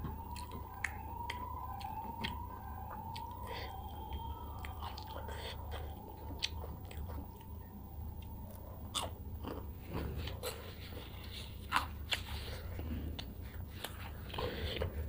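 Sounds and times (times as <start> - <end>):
person chewing and crunching food: 0.0 - 15.0.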